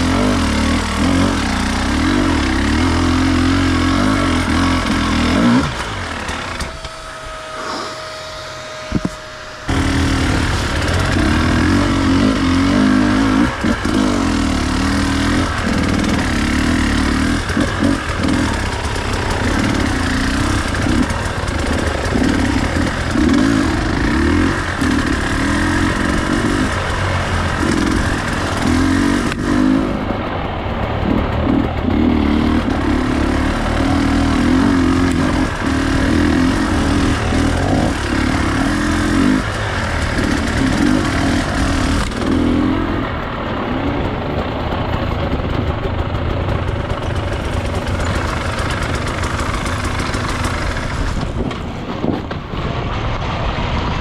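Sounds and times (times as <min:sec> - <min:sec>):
dirt bike engine revving: 0:00.0 - 0:52.6.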